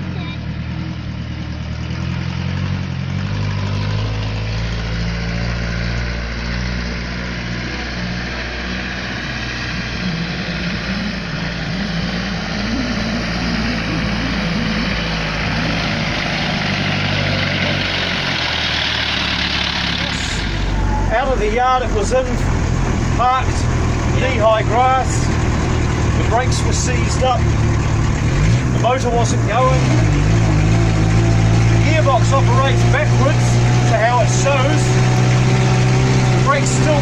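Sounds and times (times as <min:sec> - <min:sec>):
bus engine running: 0:00.0 - 0:37.0.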